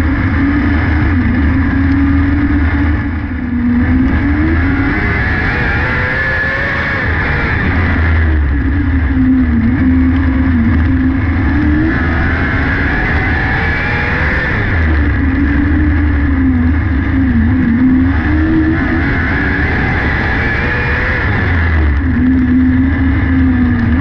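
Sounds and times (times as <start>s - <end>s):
racing engine revving: 0.0s - 24.0s.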